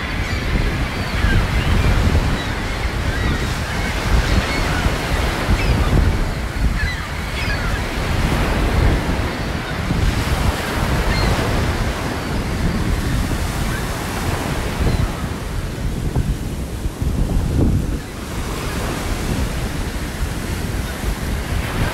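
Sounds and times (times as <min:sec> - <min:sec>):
ocean surf breaking: 0:00.0 - 0:21.9
wind buffeting microphone: 0:00.0 - 0:21.9.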